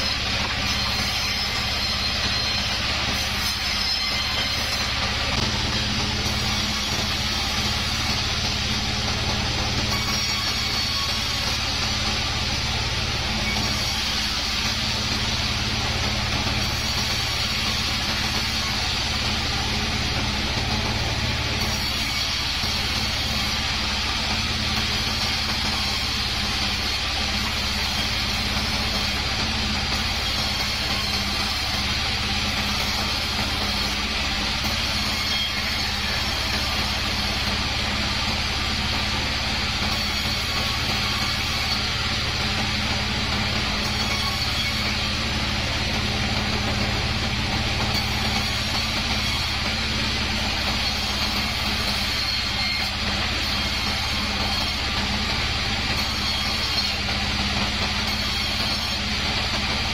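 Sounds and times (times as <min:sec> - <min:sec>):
bandsaw blade cutting wood: 0:00.0 - 0:59.9
bandsaw motor hum: 0:00.0 - 0:59.9.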